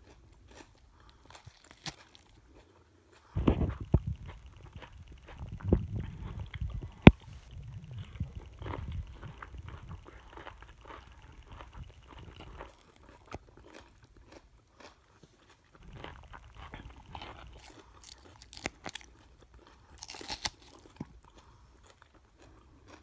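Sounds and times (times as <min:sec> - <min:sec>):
chewing crisp salad: 0:00.0 - 0:23.0.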